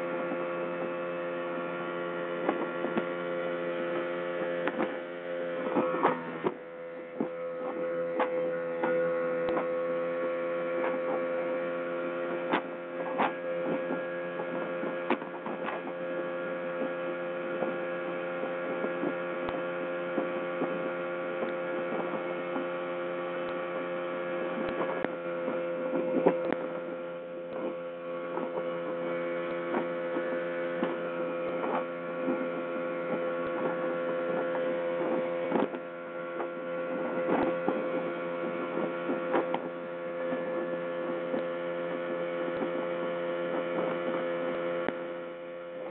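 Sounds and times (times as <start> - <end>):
speedboat engine humming: 0.0 - 45.9.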